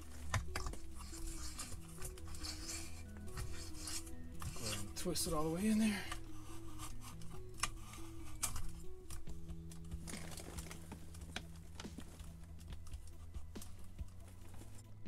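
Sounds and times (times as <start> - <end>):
quiet background music: 0.0 - 15.0.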